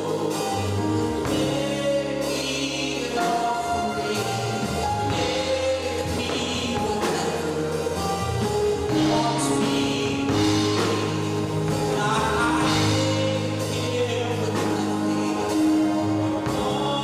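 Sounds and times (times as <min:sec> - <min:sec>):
band with bass and drums: 0:00.0 - 0:17.0
singers holding notes: 0:00.0 - 0:17.0.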